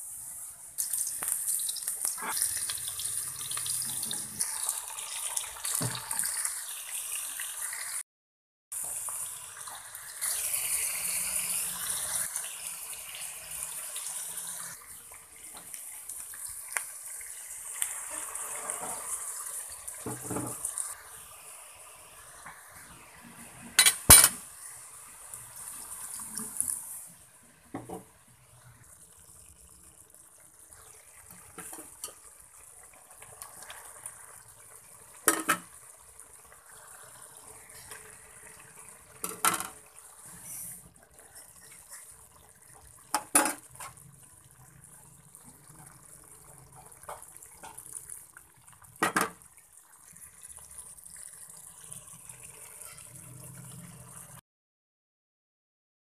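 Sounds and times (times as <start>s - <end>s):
steady sizzle: 0.0s - 8.0s, 8.7s - 54.4s.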